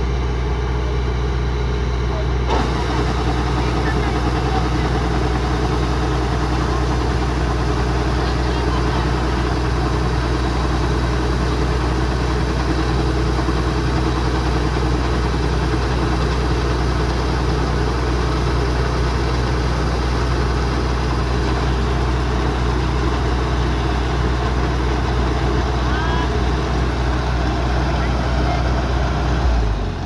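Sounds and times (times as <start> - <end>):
diesel engine running steadily: 0.0 - 30.0.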